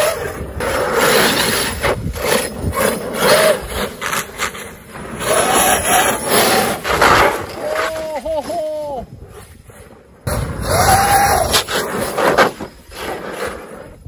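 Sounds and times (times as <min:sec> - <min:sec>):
tyres scrubbing on rough road: 0:00.0 - 0:14.0.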